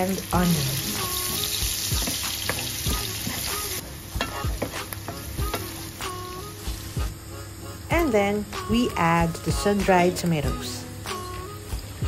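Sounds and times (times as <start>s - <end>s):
garlic and onion sizzling in oil: 0.0s - 7.0s, 7.6s - 12.0s.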